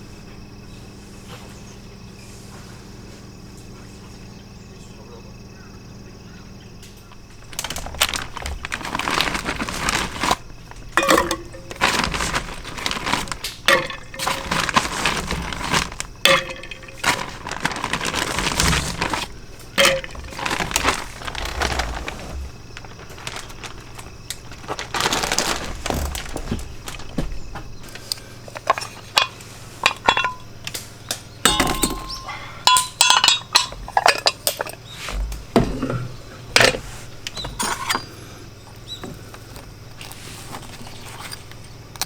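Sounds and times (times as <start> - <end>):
crinkling and crunching handling: 6.8 - 42.0.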